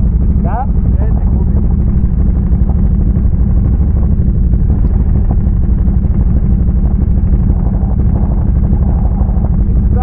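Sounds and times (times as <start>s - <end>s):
engine running with low rumble: 0.0s - 10.0s.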